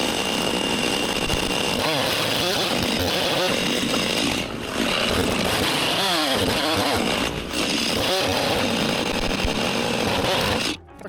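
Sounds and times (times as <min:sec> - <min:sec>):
chainsaw cutting wood: 0:00.0 - 0:10.8.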